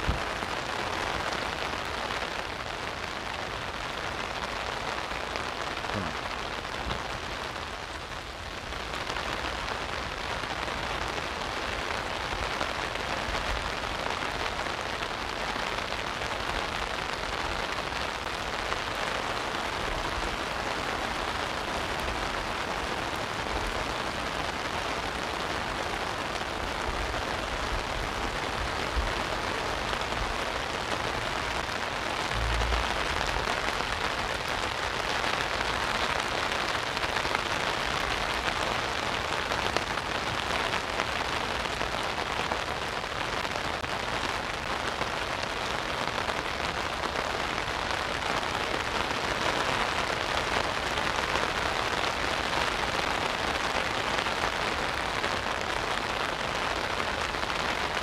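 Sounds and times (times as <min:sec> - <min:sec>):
heavy rain on an umbrella: 0:00.0 - 0:58.0.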